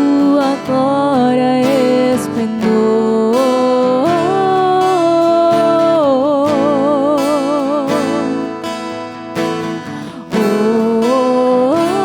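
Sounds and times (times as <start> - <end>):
acoustic guitar: 0.0 - 12.0
person singing: 0.0 - 12.0.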